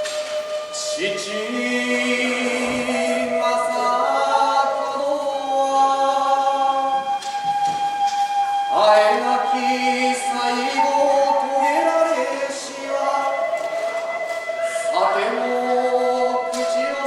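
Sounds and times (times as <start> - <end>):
person chanting long held notes: 0.0 - 17.0.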